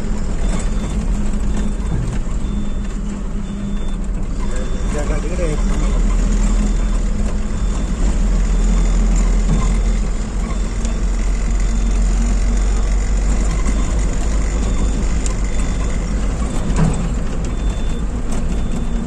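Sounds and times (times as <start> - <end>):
car engine and road noise rumble: 0.0 - 19.0.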